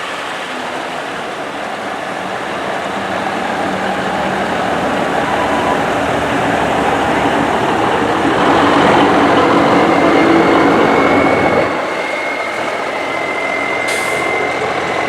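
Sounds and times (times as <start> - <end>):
diesel truck running: 0.0 - 15.0.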